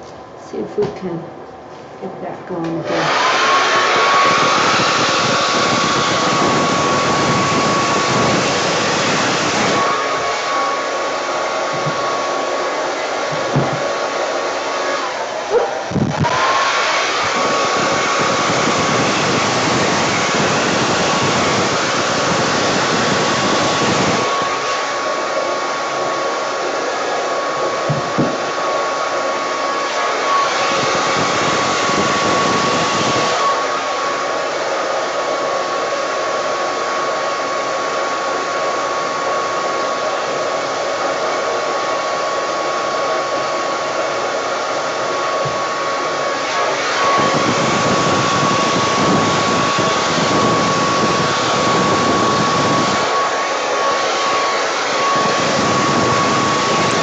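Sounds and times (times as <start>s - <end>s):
hair dryer running: 2.5s - 57.0s.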